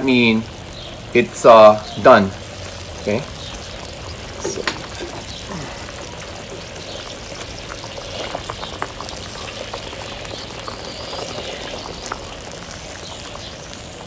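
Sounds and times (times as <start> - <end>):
liquid bubbling in a wok: 2.4 - 14.0.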